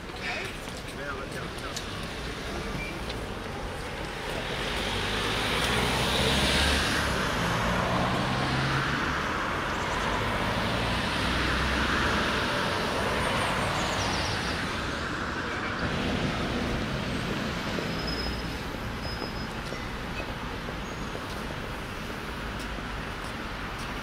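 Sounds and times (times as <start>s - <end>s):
motor vehicles passing: 0.6s - 24.0s.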